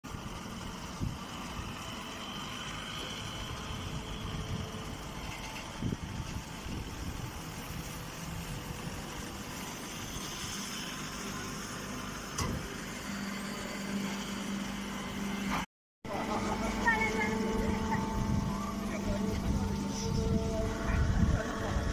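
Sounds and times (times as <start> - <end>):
baler machine running: 0.1 - 21.9
steady hum: 0.1 - 21.9.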